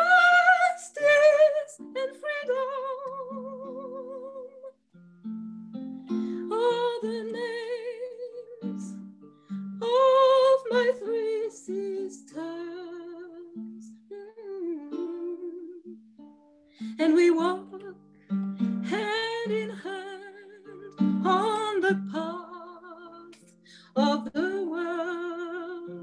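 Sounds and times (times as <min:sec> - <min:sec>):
woman singing with vibrato: 0:00.0 - 0:04.7, 0:06.4 - 0:09.0, 0:09.8 - 0:15.9, 0:16.9 - 0:18.0, 0:18.8 - 0:26.0.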